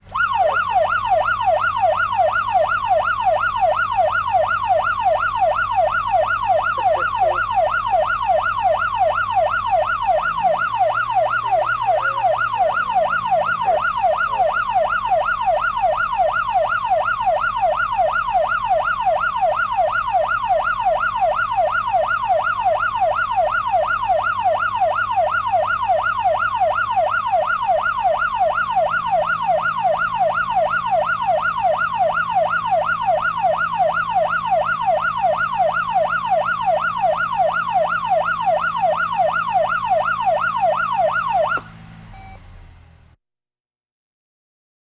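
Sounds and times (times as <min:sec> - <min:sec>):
police siren yelping: 0:00.0 - 0:42.5.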